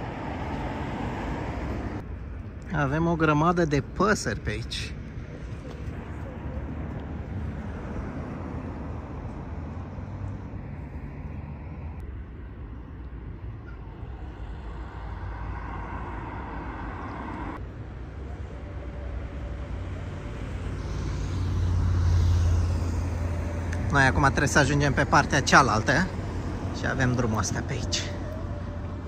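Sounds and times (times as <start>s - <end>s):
road traffic passing: 0.0s - 29.0s
vehicle engine rumble: 0.0s - 29.0s.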